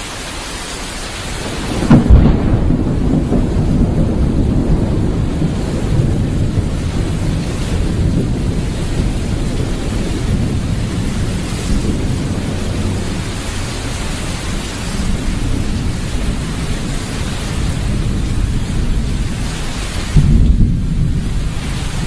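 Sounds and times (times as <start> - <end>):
loud rumbling with dense hiss: 0.0 - 22.0.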